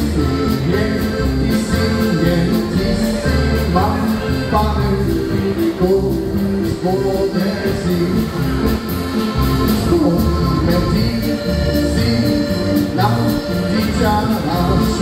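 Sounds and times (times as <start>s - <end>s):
bass line: 0.0s - 15.0s
polka band playing: 0.0s - 15.0s.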